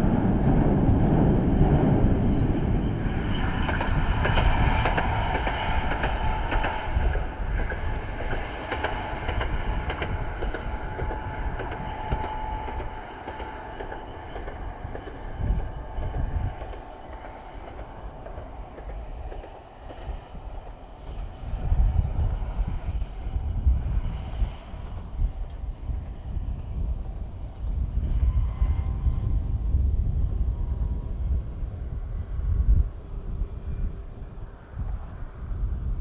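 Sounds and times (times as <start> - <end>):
steady whine: 0.0 - 35.9
electric train running past: 0.0 - 36.0.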